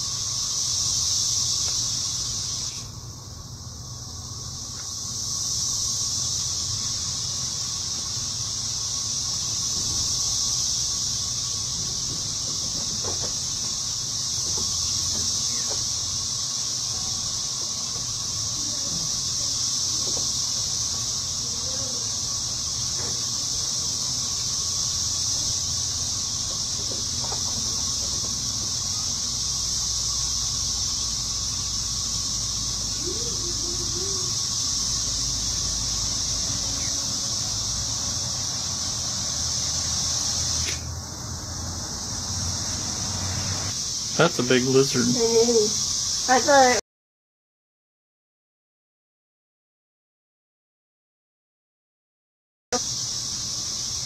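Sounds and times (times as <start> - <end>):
high-pitched insect drone: 0.0 - 46.8, 52.8 - 54.0.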